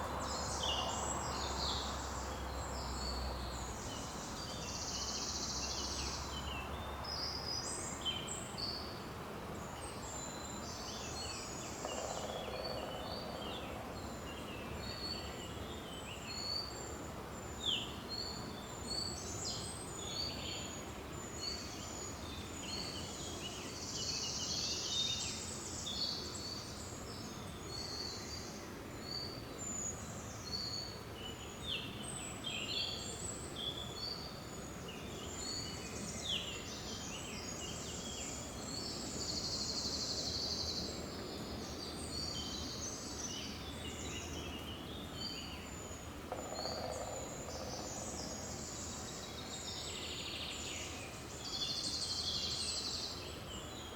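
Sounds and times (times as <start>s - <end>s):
songbirds chirping and trilling: 9.7s - 53.9s.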